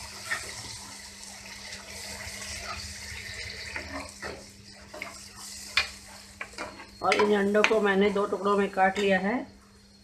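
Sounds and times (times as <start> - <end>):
masala sizzling and bubbling: 0.0 - 10.0.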